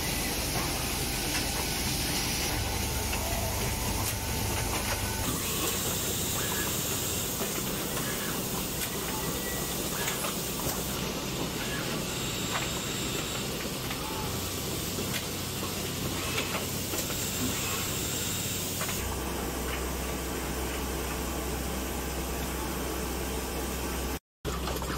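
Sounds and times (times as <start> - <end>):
factory equipment hiss and hum: 0.0 - 24.9.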